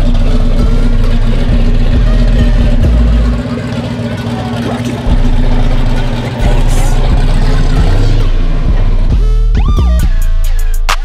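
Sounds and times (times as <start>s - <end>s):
car engine rumbling: 0.0s - 11.0s
crowd voices: 0.2s - 9.2s.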